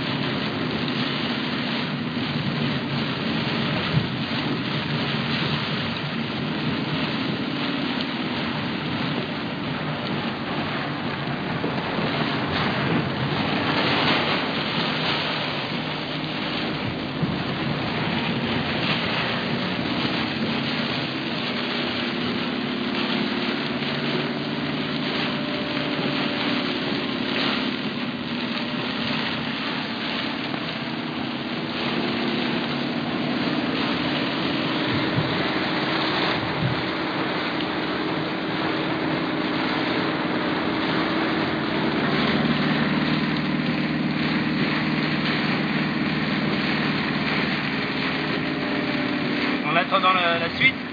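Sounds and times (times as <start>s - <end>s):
car engine and tyres humming: 0.0s - 50.9s
heavy rain on car windshield: 0.0s - 50.9s.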